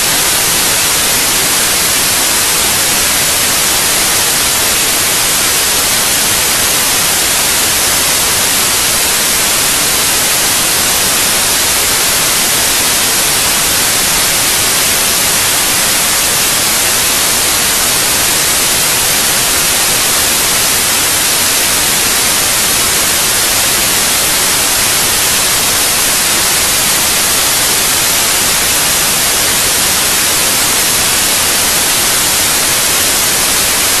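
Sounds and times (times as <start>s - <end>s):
static hiss: 0.0s - 34.0s.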